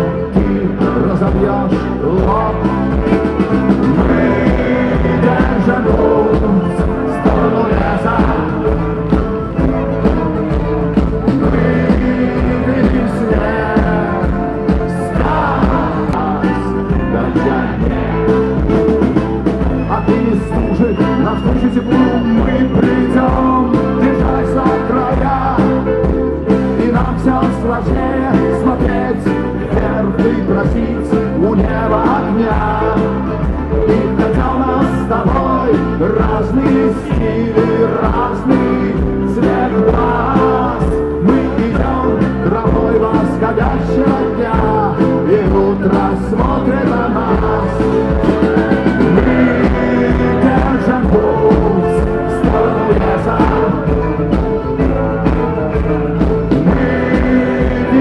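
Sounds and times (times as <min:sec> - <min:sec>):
acoustic rock band playing: 0:00.0 - 0:58.0
man singing: 0:00.0 - 0:58.0.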